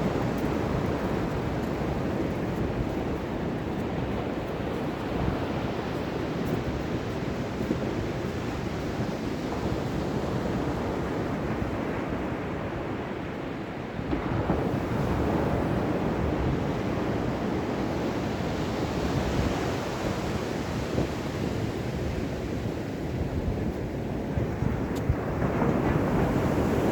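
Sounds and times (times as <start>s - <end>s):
ocean waves washing onto shore: 0.0s - 26.9s.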